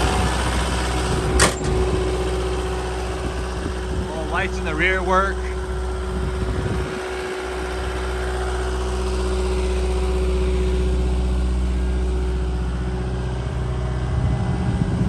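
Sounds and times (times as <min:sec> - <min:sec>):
diesel engine idling: 0:00.0 - 0:15.0
steady tone: 0:00.0 - 0:15.0.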